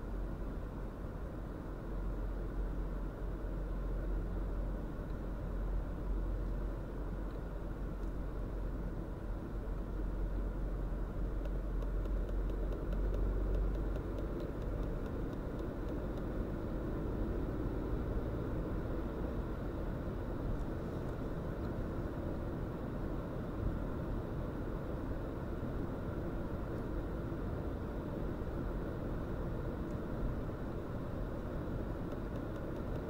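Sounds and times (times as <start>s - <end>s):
car engine and road drone: 0.0s - 33.0s.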